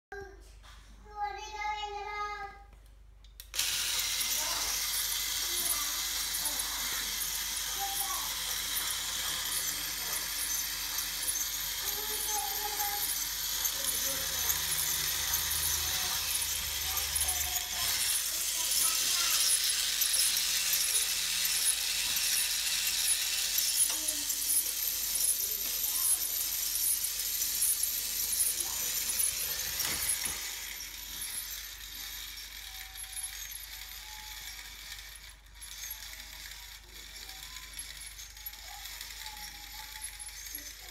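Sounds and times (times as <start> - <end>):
clockwork motor whirring: 3.4 - 40.9.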